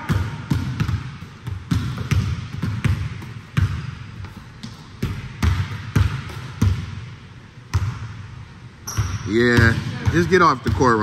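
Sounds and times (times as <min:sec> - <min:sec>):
basketballs bouncing on wooden court: 0:00.0 - 0:11.0.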